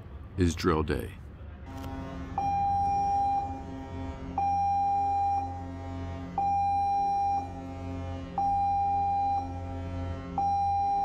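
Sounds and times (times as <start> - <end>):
pulsing electronic alarm tone: 2.1 - 11.0.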